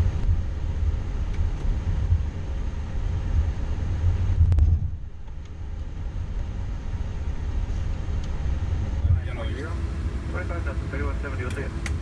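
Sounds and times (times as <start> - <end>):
aircraft cockpit rumble and hiss: 0.0 - 12.0.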